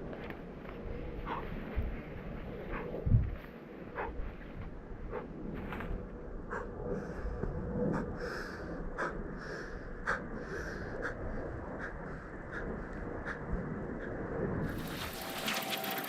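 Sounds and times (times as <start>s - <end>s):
low outdoor rumble: 0.0s - 16.0s
deep rhythmic breathing: 0.6s - 16.0s.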